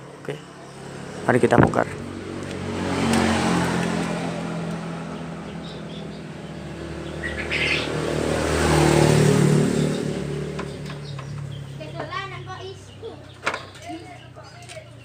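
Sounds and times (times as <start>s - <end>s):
bird chirping: 0.0s - 15.0s
vehicle engine passing by: 0.0s - 15.0s.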